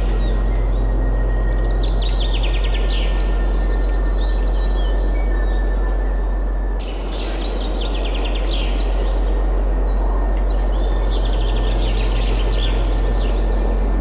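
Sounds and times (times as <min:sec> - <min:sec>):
deep low rumble: 0:00.0 - 0:06.8, 0:09.4 - 0:14.0
songbirds singing: 0:00.0 - 0:14.0.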